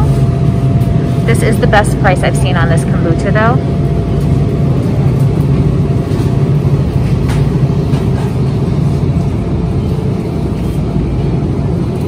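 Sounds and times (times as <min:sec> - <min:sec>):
low store background rumble: 0:00.0 - 0:12.0.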